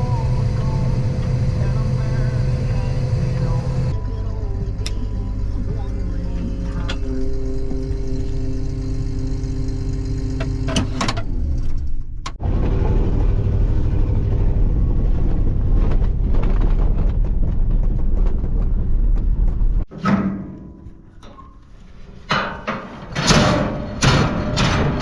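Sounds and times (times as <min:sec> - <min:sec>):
heavy machinery engine running: 0:00.0 - 0:19.9, 0:20.6 - 0:25.0.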